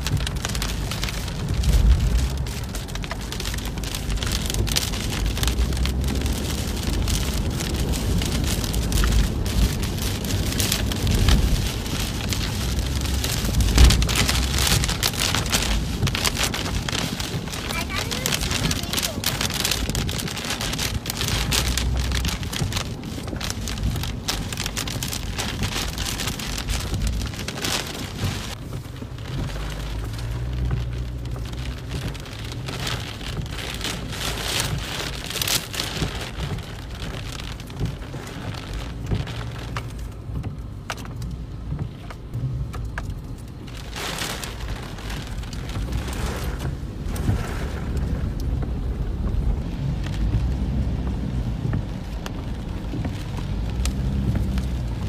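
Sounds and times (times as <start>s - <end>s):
car rumbling on wet road: 0.0s - 55.0s
heavy rain on car roof: 0.0s - 55.0s.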